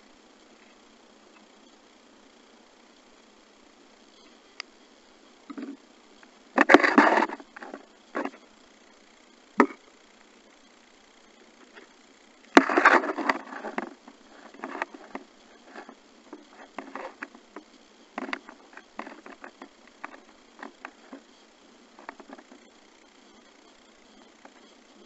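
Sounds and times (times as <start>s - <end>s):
crackling rustle: 0.0s - 25.0s.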